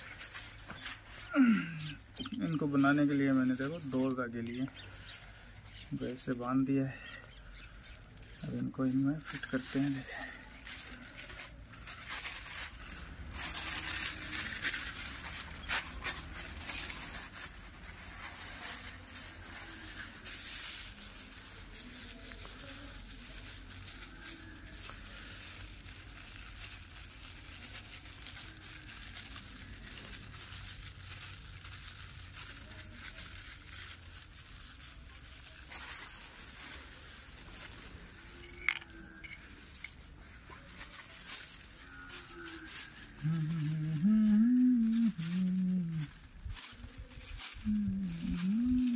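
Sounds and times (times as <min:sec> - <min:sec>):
plastic bag crinkling: 0:00.0 - 0:48.9.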